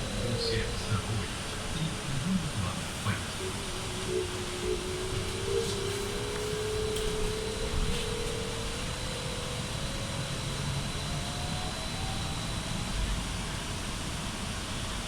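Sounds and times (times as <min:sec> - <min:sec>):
thin high whine: 0:00.0 - 0:13.1
electric traction drive whining: 0:00.0 - 0:14.2.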